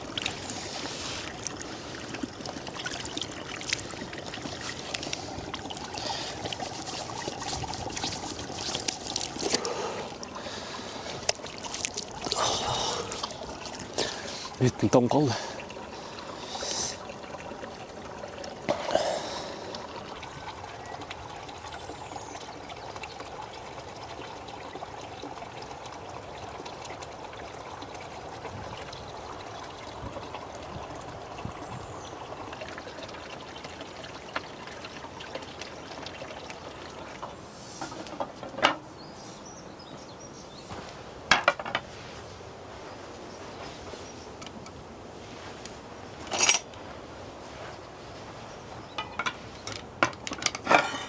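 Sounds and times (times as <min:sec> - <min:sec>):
water trickling: 0:00.0 - 0:51.0.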